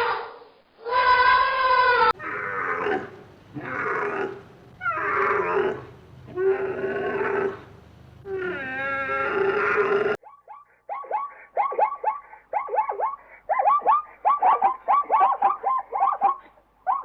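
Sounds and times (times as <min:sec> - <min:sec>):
animal calls: 0:00.0 - 0:17.0.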